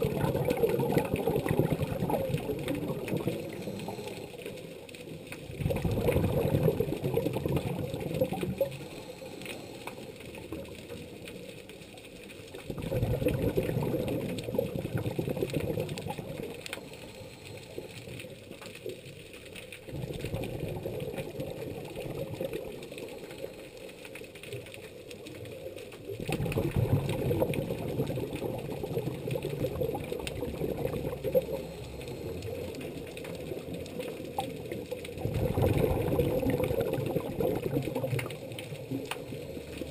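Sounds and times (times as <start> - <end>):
underwater regulator bubbles: 0.0 - 39.9.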